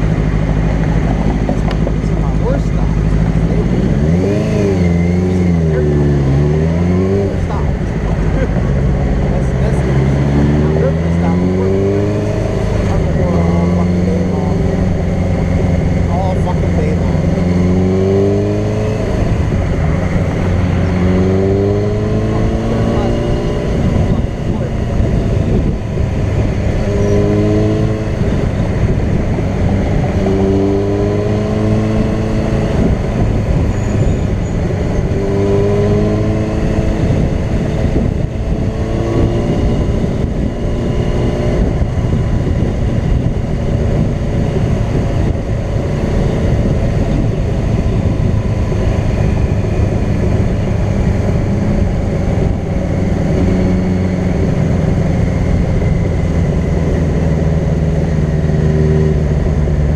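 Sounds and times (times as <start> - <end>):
motorcycle engine: 0.0 - 59.9
wind and road noise: 0.0 - 59.9.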